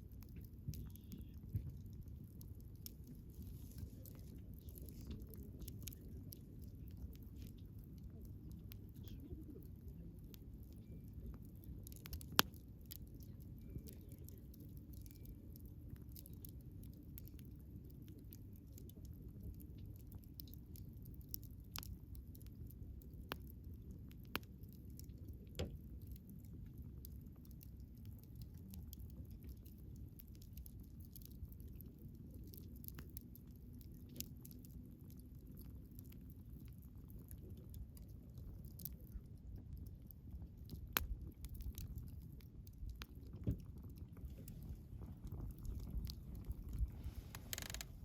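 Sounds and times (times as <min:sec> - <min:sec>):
campfire low rumble: 0:00.0 - 0:48.0
fire crackles and pops: 0:00.0 - 0:48.0.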